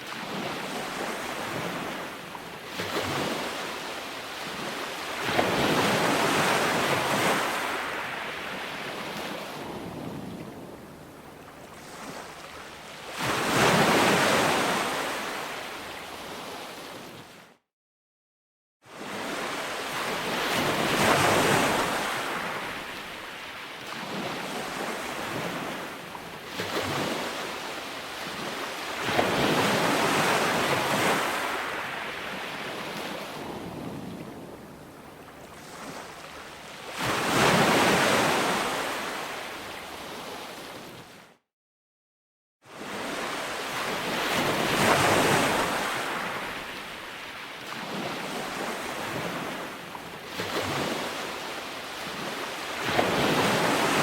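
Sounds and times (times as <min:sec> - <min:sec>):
ocean waves breaking on beach: 0:00.0 - 0:17.6, 0:18.9 - 0:41.4, 0:42.7 - 0:54.0.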